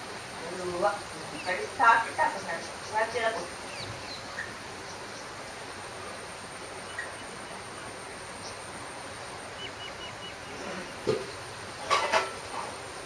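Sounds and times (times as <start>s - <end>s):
faint high whine: 0.0s - 11.5s
background hiss: 0.0s - 13.0s.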